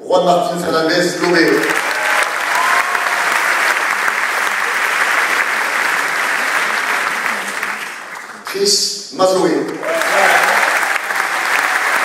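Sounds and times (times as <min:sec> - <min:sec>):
audience applauding: 0:01.2 - 0:08.6, 0:09.7 - 0:12.0.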